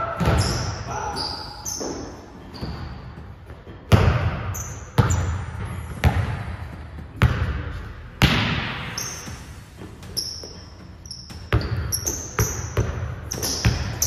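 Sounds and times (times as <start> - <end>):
basketball bouncing on court: 0.1 - 9.0, 11.2 - 14.0.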